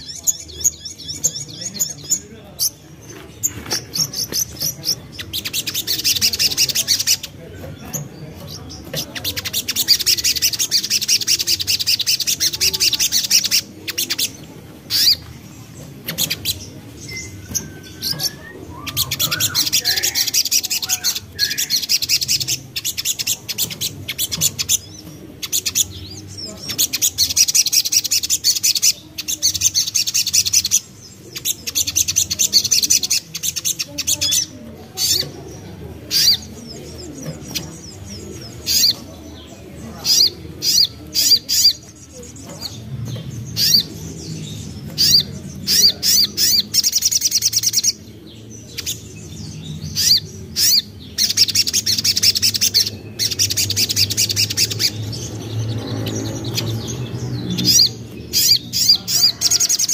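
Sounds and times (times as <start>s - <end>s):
bird twittering: 0.0s - 59.9s.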